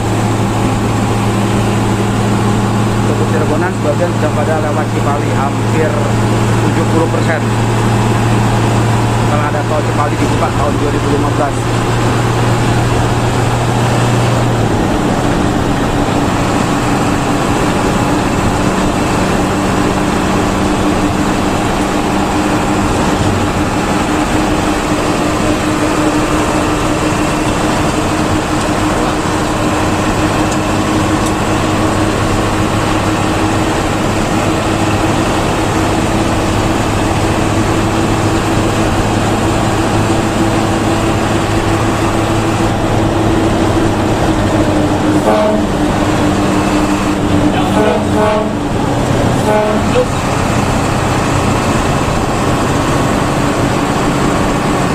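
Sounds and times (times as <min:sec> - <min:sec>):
bus engine and road noise: 0:00.0 - 0:54.9.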